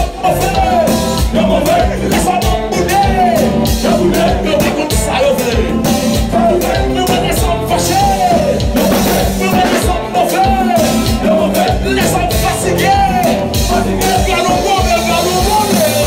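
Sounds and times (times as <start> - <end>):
live band playing: 0.0 - 16.0
person singing lead melody: 0.0 - 16.0.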